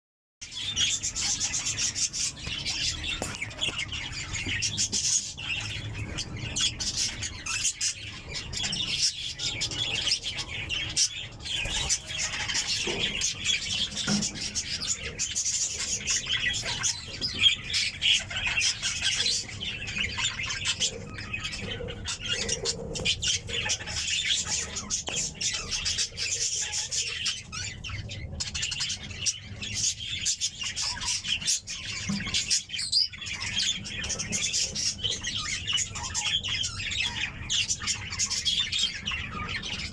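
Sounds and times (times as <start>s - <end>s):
budgerigars chirping and chattering: 0.4s - 39.9s.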